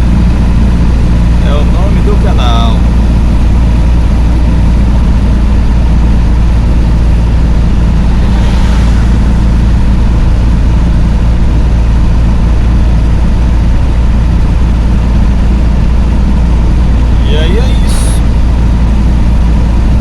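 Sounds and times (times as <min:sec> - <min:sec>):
road noise: 0:00.0 - 0:20.0
vehicle engine drone: 0:00.0 - 0:20.0.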